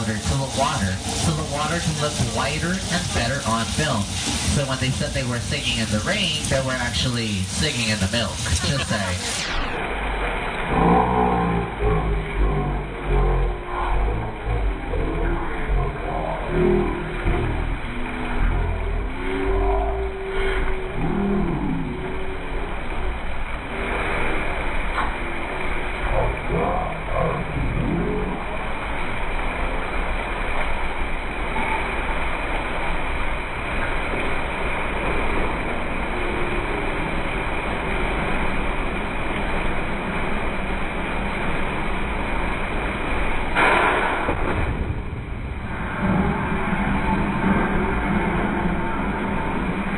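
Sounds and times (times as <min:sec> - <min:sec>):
low rumble: 0:00.0 - 0:49.9
water rushing and splashing: 0:00.0 - 0:49.9.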